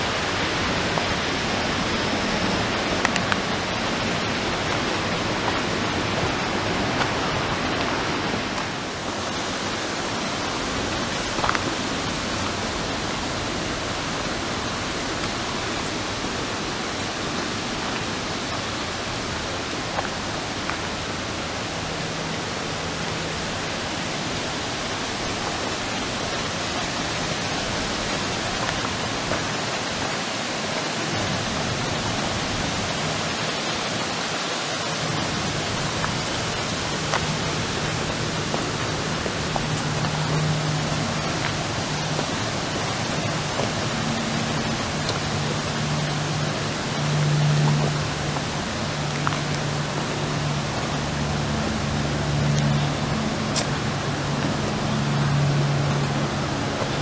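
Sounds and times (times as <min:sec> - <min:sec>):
fast-flowing water rushing: 0:00.0 - 0:57.0.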